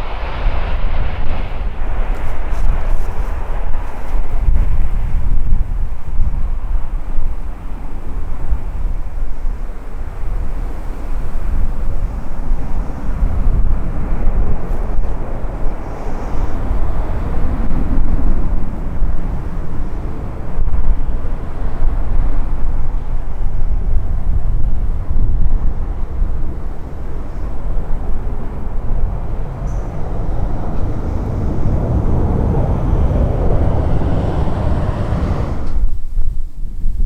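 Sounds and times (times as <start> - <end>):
jet engines roaring on take-off: 0.0 - 8.0, 9.5 - 36.1.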